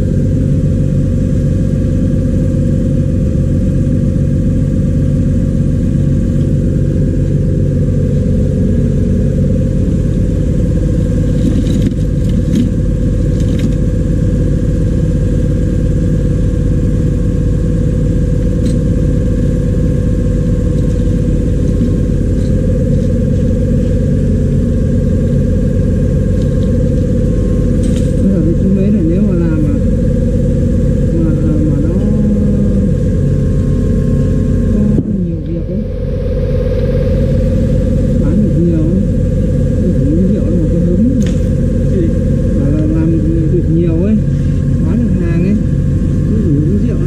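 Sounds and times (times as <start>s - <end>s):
vacuum pump humming: 0.0s - 47.0s.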